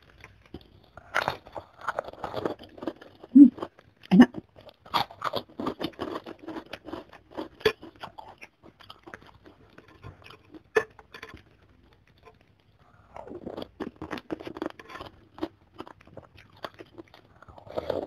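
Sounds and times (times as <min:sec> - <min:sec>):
person chewing crunchy crackers: 0:00.0 - 0:18.0.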